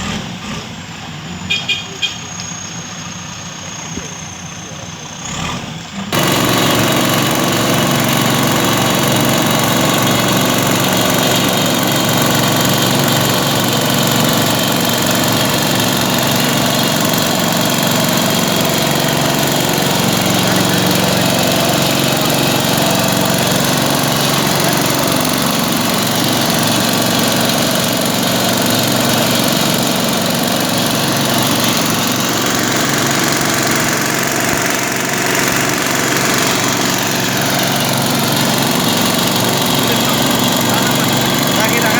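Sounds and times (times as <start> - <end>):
diesel engine running loudly: 2.3 - 41.9.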